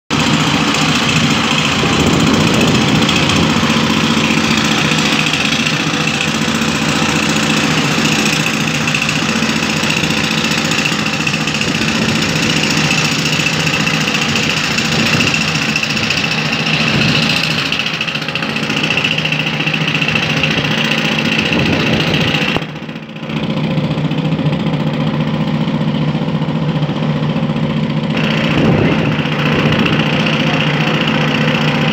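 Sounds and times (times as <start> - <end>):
excavator engine running: 0.1 - 31.9
hammer drill hammering: 0.1 - 31.9.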